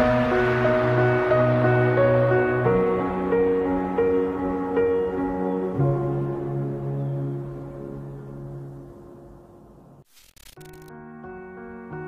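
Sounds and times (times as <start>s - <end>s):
soft slow instrumental music: 0.0s - 10.0s.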